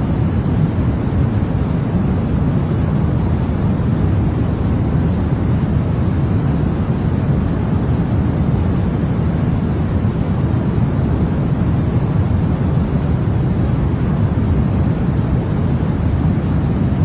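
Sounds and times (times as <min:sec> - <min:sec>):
deep white noise: 0:00.0 - 0:17.0.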